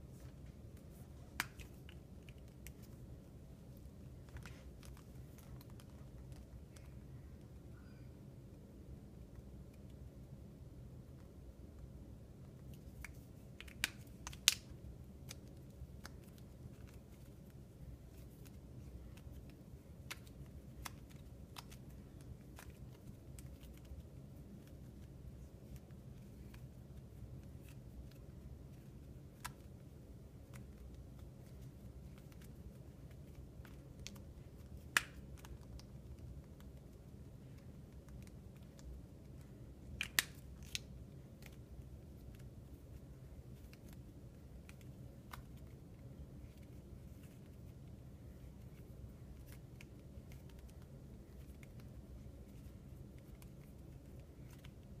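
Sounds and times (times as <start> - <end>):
low room hum: 0.0 - 55.0.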